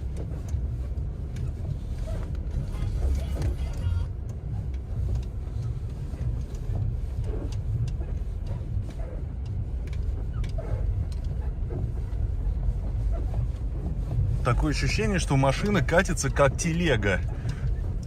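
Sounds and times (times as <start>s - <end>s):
suspension creaking: 0.0s - 18.0s
wheel squeaks and knocks: 0.0s - 18.0s.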